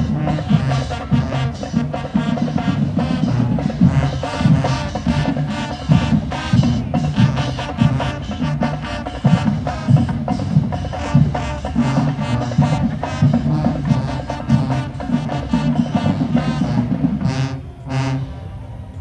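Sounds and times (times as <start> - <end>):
busy percussion beat: 0.0 - 17.6.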